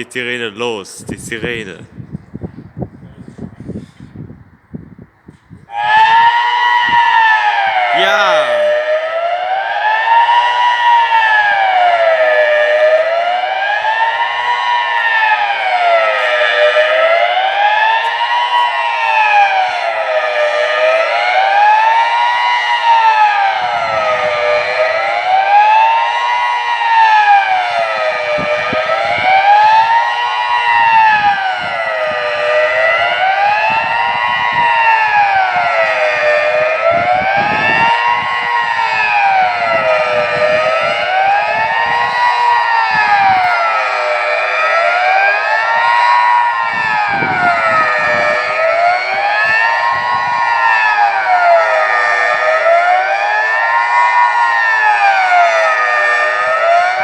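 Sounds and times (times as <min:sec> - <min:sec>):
civil defence siren wailing: 0:05.7 - 0:57.0.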